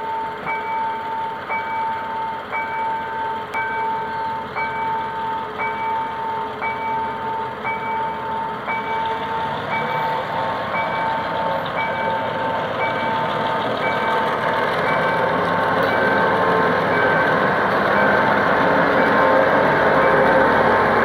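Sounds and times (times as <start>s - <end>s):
level crossing signal beeping: 0.0s - 21.0s
locomotive diesel engine: 0.0s - 21.0s.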